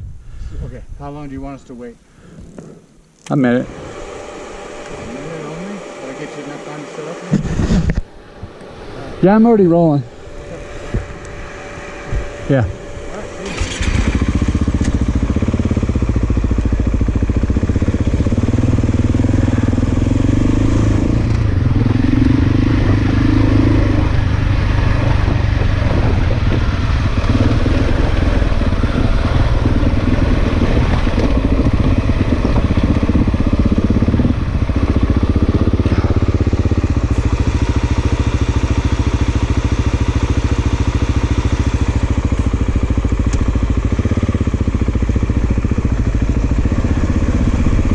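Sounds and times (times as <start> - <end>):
motorcycle engine thumping: 7.3 - 8.6, 10.3 - 47.9.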